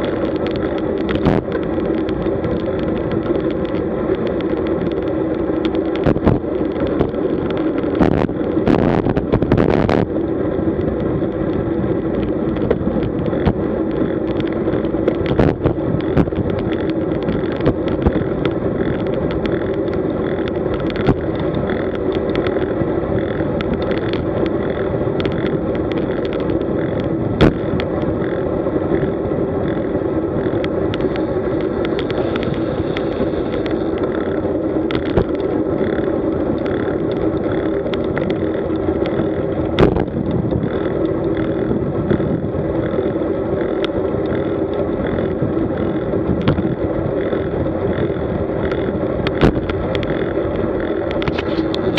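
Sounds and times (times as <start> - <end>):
bicycle tyre road noise: 0.0 - 51.9.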